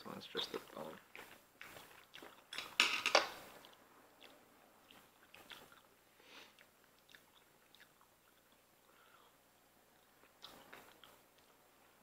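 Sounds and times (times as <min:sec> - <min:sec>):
quiet chewing: 0:00.5 - 0:02.8, 0:03.4 - 0:12.0.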